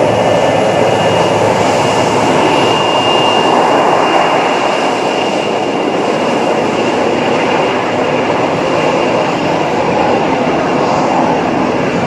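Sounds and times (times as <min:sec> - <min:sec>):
jet engines roaring with whine: 0:00.0 - 0:12.0.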